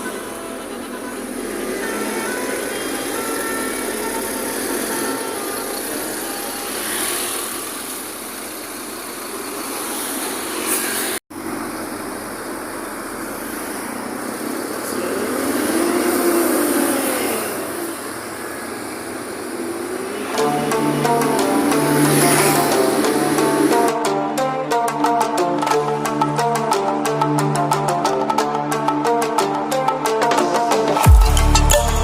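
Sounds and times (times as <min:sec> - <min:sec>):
engine rising and falling in pitch: 0:00.0 - 0:27.0
road traffic passing: 0:00.0 - 0:32.0.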